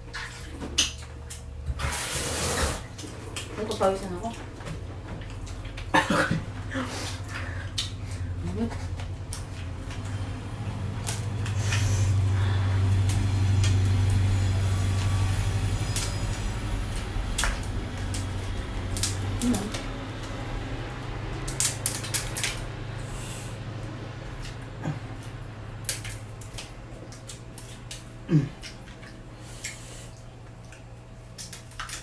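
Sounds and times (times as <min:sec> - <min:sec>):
low hum: 0:02.8 - 0:32.0.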